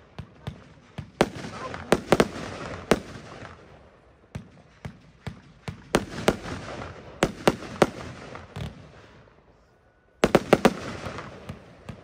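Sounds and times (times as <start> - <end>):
firework shots bursting: 0.0 - 9.3, 10.2 - 12.0.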